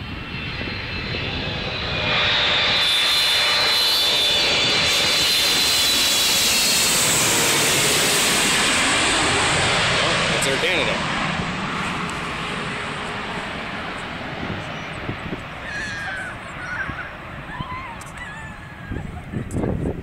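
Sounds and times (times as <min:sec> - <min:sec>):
high engine whine: 0:00.0 - 0:20.0
jet plane passing overhead: 0:00.0 - 0:20.0.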